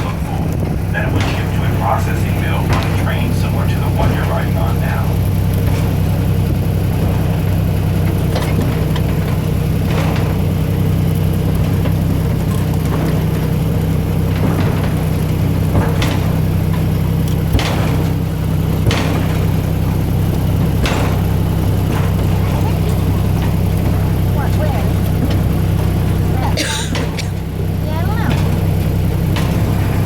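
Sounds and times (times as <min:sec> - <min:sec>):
short clacks: 0:00.0 - 0:27.6
train engine drone: 0:00.0 - 0:30.0.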